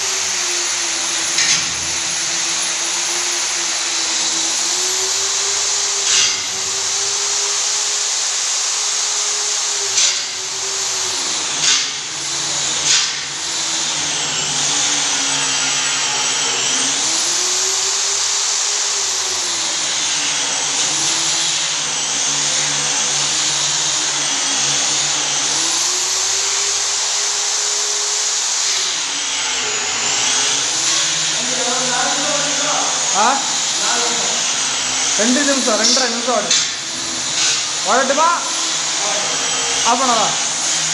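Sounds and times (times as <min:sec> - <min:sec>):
electric polisher motor whine: 0:00.0 - 0:40.9.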